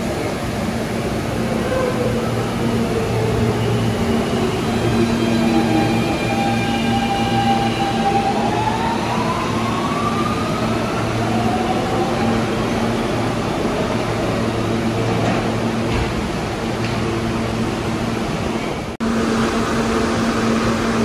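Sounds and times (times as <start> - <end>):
subway train motor whine: 0.0 - 21.0.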